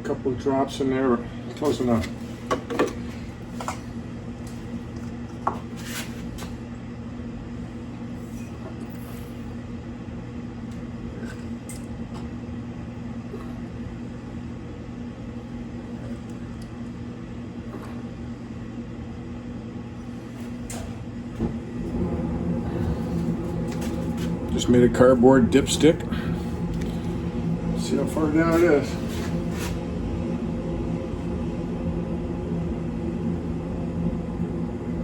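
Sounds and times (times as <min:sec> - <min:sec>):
machine electrical hum: 0:00.0 - 0:35.0.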